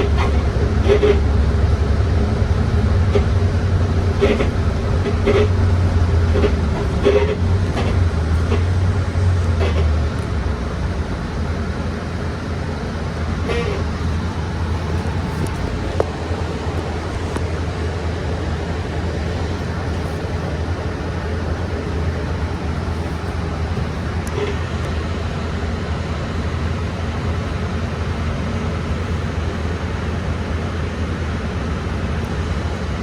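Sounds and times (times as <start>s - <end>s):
bus engine and road noise: 0.0s - 33.0s.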